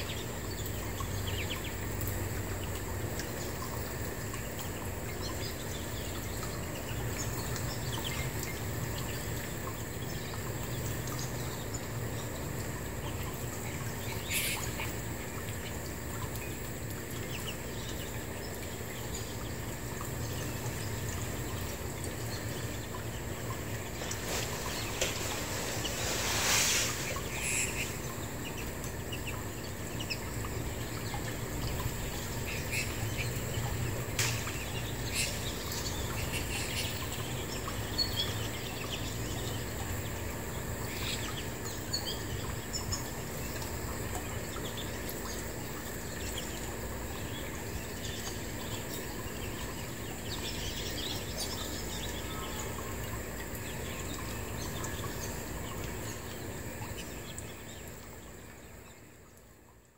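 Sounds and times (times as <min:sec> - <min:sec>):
background hiss and hum: 0:00.0 - 0:59.9
songbirds chirping: 0:00.0 - 0:59.9.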